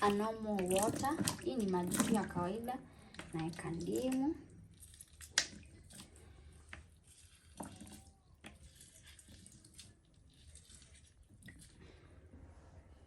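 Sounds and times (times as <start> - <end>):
faint water drips: 0.0 - 12.1.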